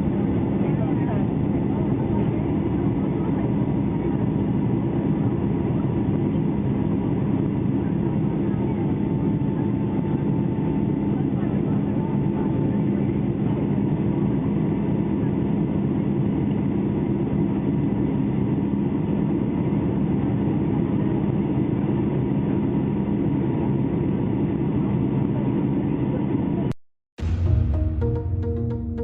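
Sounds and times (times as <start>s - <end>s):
airliner cabin drone: 0.0s - 29.0s.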